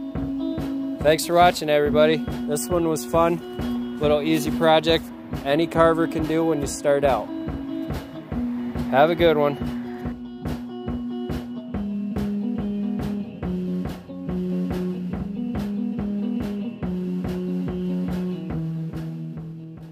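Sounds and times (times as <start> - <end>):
drum kit steady beat: 0.0 - 19.9
guitar: 0.0 - 19.9.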